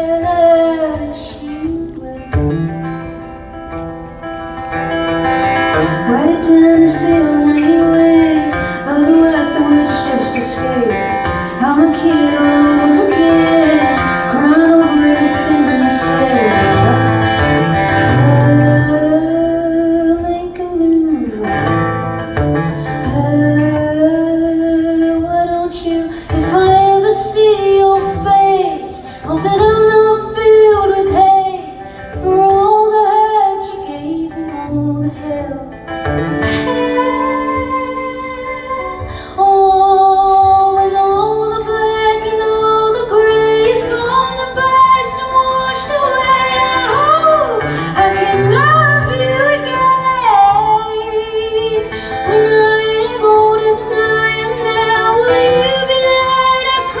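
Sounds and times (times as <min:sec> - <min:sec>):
guitar accompaniment: 0:00.0 - 0:57.0
woman singing: 0:00.0 - 0:57.0.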